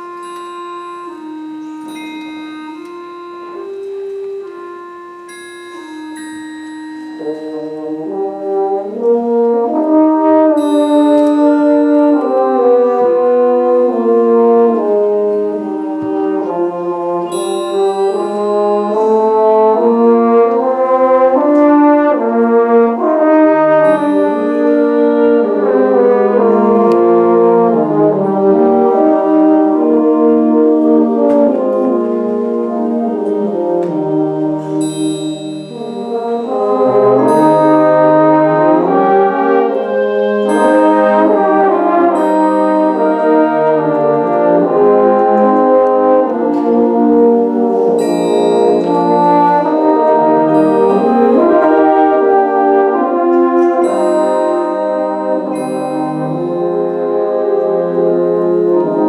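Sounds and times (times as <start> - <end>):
concert band playing: 0.0 - 59.0
french horns sustained chords: 0.0 - 59.0.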